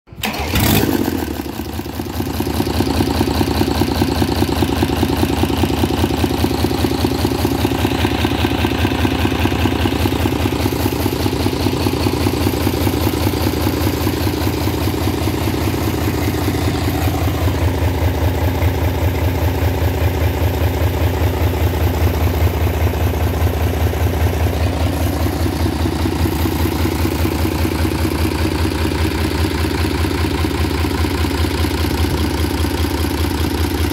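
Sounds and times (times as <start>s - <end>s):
diesel engine idling: 0.2s - 33.9s.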